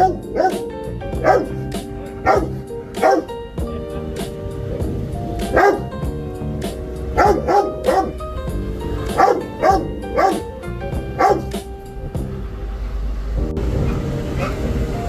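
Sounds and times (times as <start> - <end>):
dog barking: 0.0 - 11.6, 13.9 - 14.6
background music with held notes: 0.0 - 15.0.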